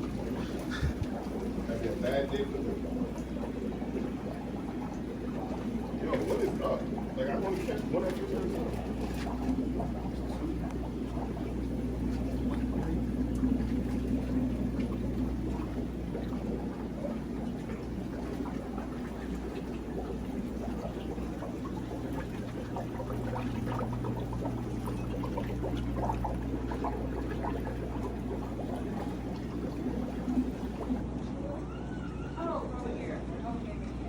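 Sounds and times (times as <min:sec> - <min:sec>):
water trickling and splashing: 0:00.0 - 0:31.0
low hum of pumps: 0:00.0 - 0:34.0.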